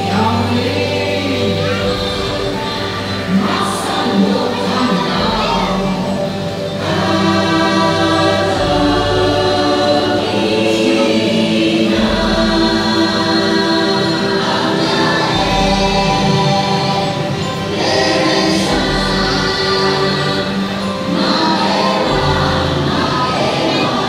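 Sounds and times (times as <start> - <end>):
choir chanting over chords: 0.0 - 24.0.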